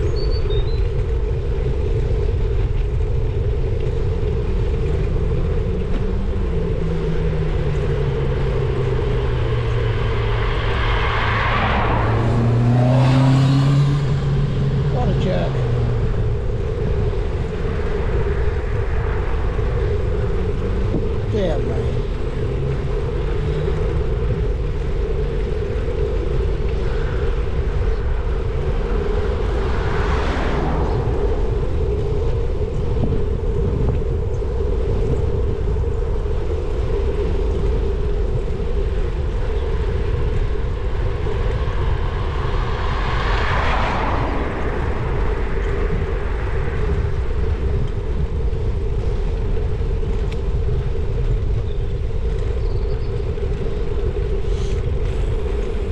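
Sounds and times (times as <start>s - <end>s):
constant hum: 0.0s - 55.9s
tyres rumbling on road: 0.0s - 55.9s
wind rush over microphone: 0.0s - 55.9s.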